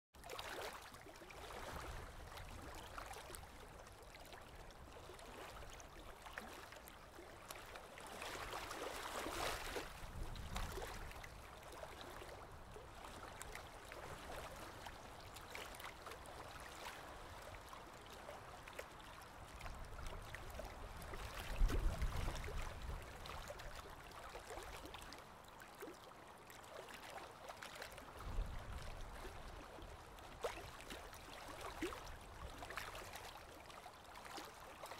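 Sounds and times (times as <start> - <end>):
waves lapping on shore: 0.2 - 34.9.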